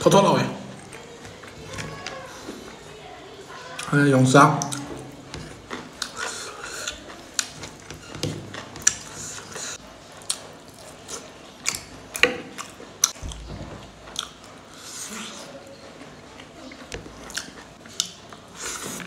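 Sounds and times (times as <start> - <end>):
chewing and lip-smacking: 0.7 - 2.8, 4.6 - 19.0.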